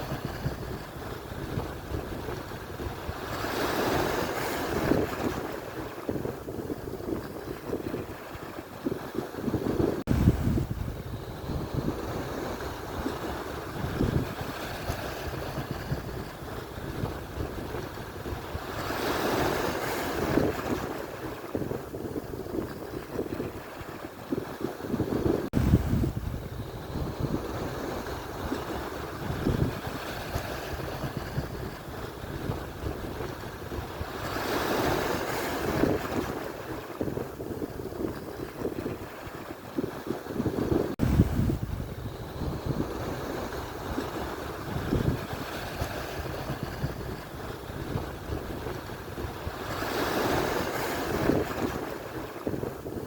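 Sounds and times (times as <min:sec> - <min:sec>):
surf washing on shore: 0:00.0 - 0:53.0
wind buffeting microphone: 0:00.0 - 0:53.0.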